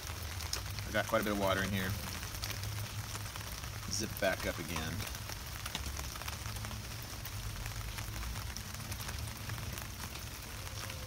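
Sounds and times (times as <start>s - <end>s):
rain pattering on a tarp: 0.0s - 11.0s.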